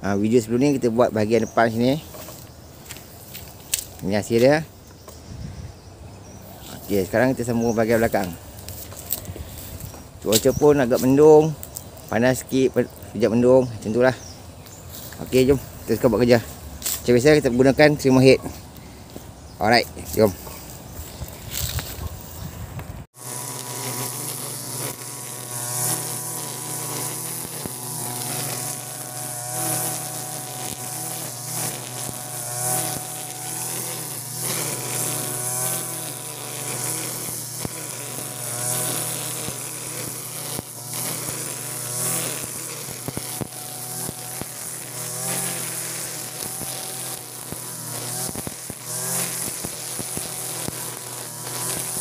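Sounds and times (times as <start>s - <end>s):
line cutting grass hiss: 0.0s - 22.5s, 23.1s - 52.0s
brush cutter engine: 0.0s - 52.0s.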